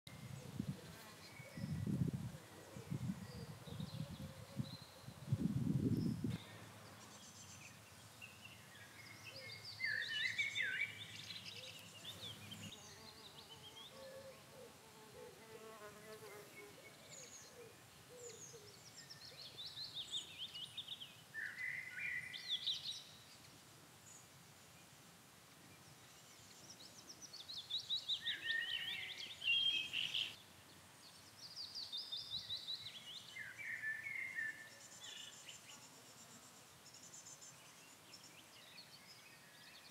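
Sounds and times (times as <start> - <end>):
songbirds singing: 0.1 - 24.9, 25.7 - 39.9.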